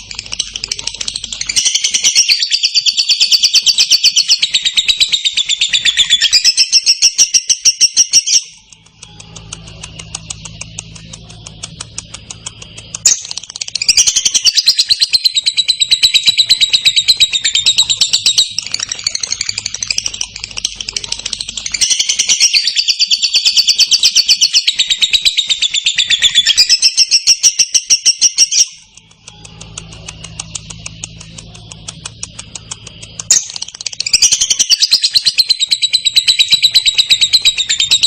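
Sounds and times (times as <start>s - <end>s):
lovebird chattering trill: 0.0s - 38.0s.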